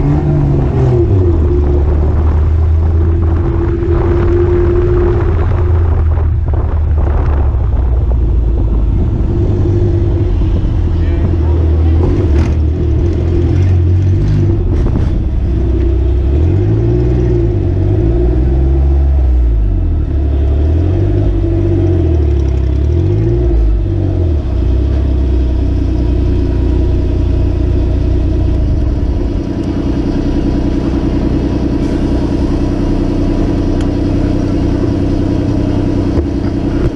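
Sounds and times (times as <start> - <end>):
car engine revving and idling: 0.0 - 36.9.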